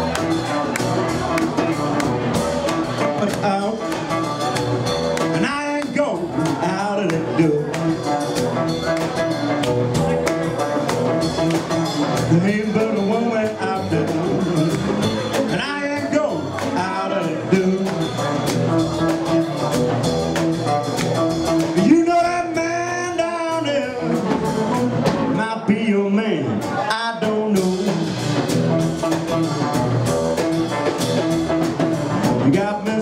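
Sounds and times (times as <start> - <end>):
amplified guitar lead line: 0.0 - 33.0
live blues band playing: 0.0 - 33.0.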